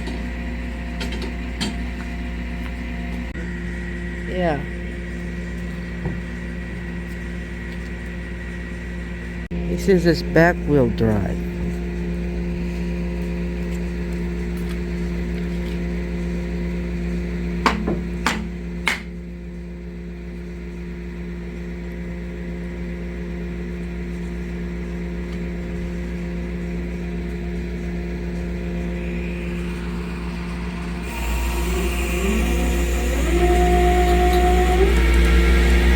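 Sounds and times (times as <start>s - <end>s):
tow truck engine running: 0.0s - 19.2s, 24.7s - 35.9s.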